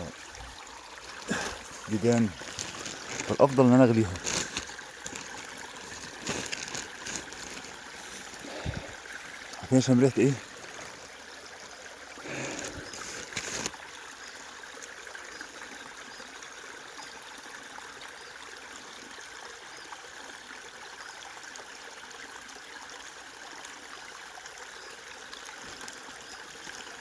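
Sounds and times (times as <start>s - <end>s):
stream trickling over stones: 0.0s - 27.0s.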